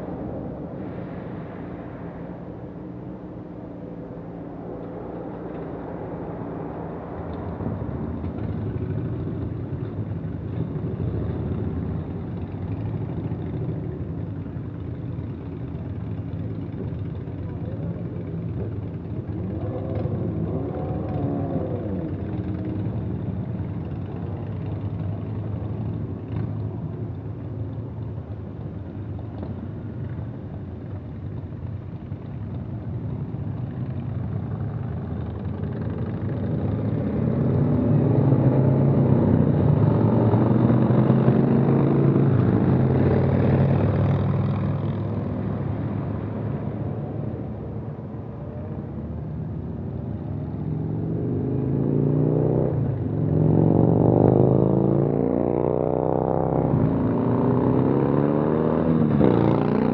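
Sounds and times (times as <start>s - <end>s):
vehicles driving past: 0.0s - 59.9s.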